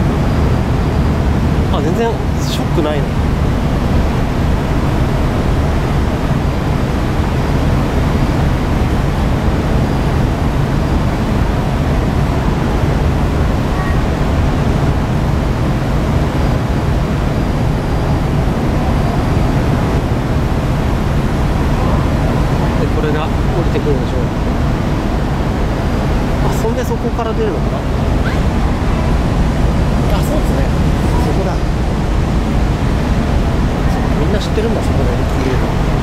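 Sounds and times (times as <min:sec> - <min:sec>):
ship engines rumbling: 0:00.0 - 0:36.0.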